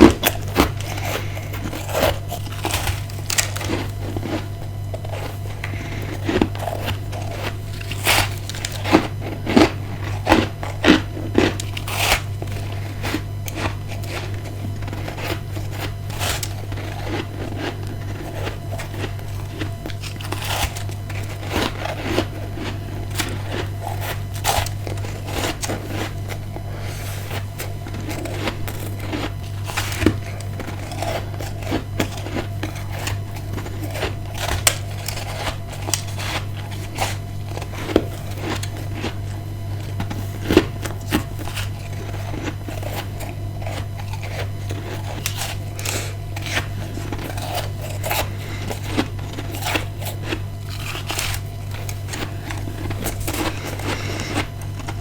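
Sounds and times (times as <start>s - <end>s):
ice being crunched: 0.0s - 55.0s.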